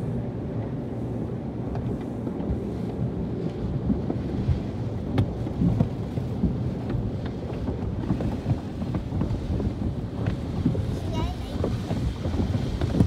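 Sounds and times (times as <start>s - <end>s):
car wash spray on car: 0.0s - 13.0s.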